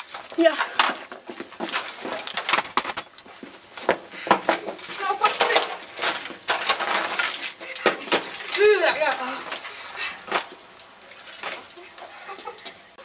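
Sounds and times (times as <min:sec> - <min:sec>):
bicycles rattling and clinking: 0:00.0 - 0:13.0.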